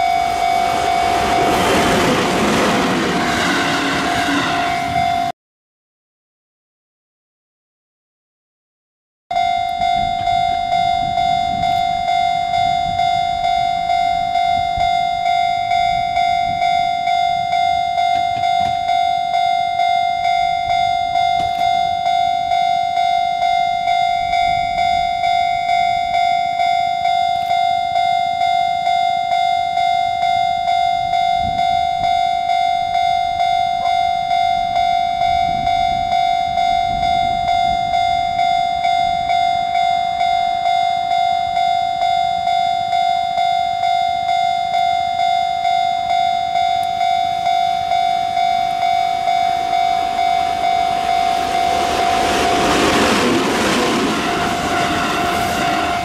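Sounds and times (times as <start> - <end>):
level crossing bell ringing: 0.0 - 2.9, 9.3 - 56.0.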